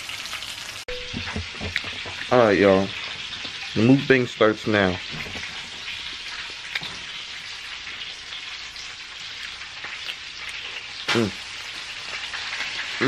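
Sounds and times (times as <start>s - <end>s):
hot oil sizzling and popping: 0.0s - 13.0s.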